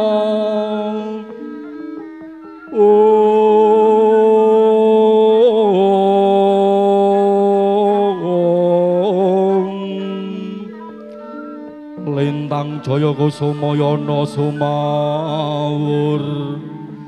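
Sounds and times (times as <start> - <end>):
person singing with vibrato: 0.0 - 17.0
sustained instrumental accompaniment: 0.0 - 17.0.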